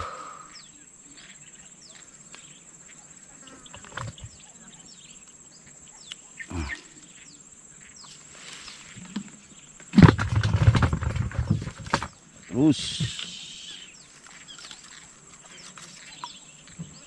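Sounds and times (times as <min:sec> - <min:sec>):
bird chirps: 0:00.0 - 0:09.8, 0:12.0 - 0:17.0.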